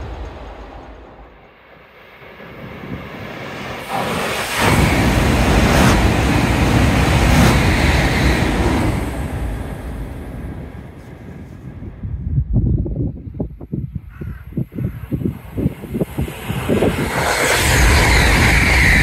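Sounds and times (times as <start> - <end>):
high-speed train rushing past: 0.0 - 12.4, 15.2 - 19.0.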